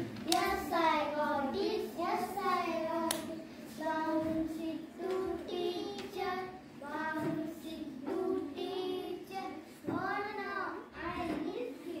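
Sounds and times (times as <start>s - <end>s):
children singing a rhyme: 0.2s - 12.0s.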